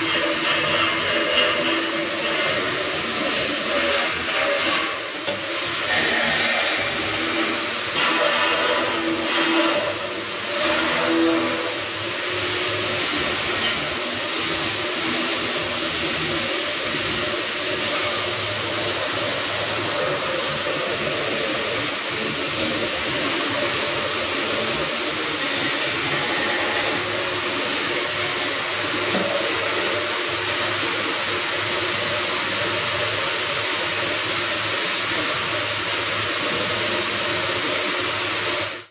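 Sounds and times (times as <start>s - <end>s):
steady machine hiss: 0.0s - 38.9s.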